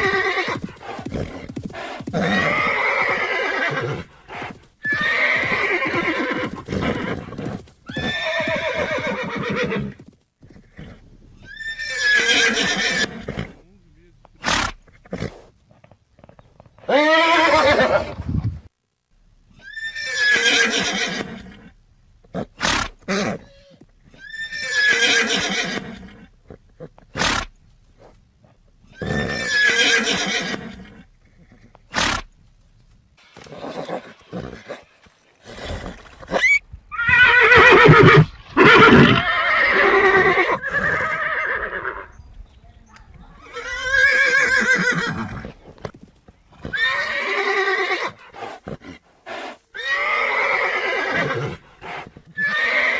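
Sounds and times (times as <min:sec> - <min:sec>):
horse neighing: 0:00.0 - 0:13.8, 0:16.8 - 0:18.2, 0:19.6 - 0:21.7, 0:22.3 - 0:27.6, 0:28.9 - 0:32.3, 0:33.4 - 0:42.3, 0:43.4 - 0:45.9, 0:46.6 - 0:52.9.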